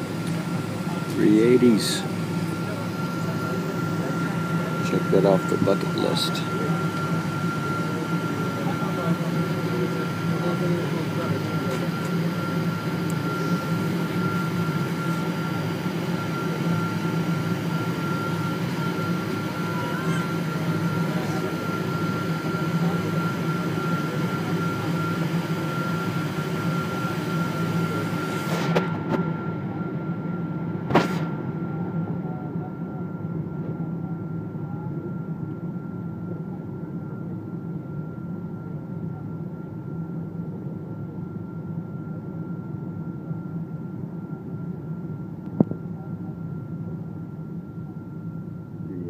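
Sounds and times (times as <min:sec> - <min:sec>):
aircraft cabin engine hum: 0:00.0 - 0:49.0
thin steady whine: 0:00.0 - 0:49.0.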